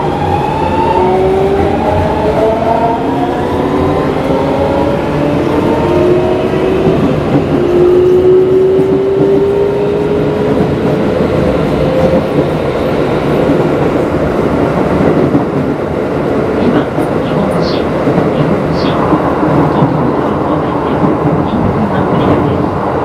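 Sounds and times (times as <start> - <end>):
wheels rumbling on rails: 0.0 - 23.0.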